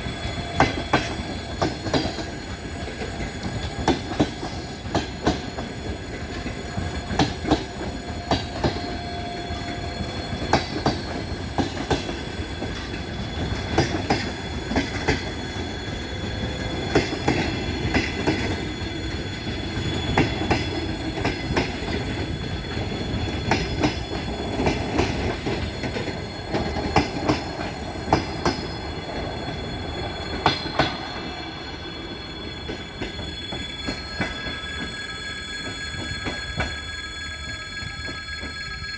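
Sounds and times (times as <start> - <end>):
train wheels clacking over rail joints: 0.0 - 31.4
train rumble: 0.0 - 38.9.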